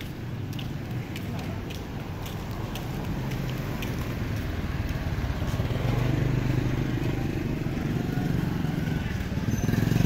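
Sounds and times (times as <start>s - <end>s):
motorbikes riding past: 0.0s - 10.0s.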